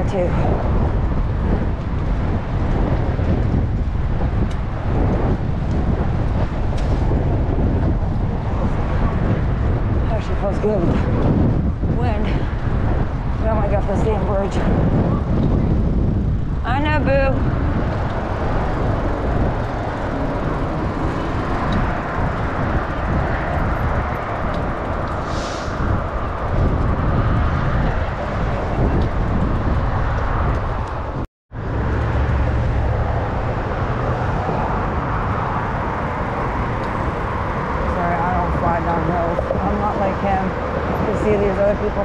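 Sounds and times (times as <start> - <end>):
wind rushing on microphone: 0.0 - 42.0.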